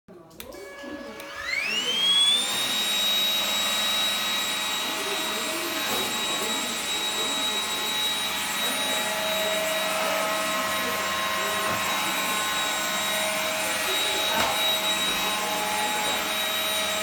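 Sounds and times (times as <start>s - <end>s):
stick vacuum motor whine: 0.5s - 17.0s.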